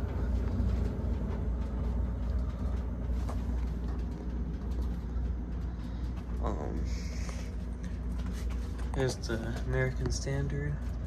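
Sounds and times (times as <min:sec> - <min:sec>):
furnace low rumble: 0:00.0 - 0:11.0.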